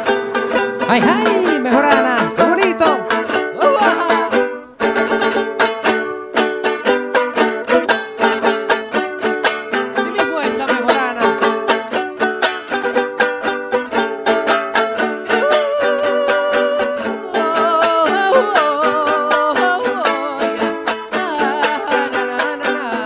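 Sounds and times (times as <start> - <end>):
small folk guitar strummed fast: 0.0 - 23.0.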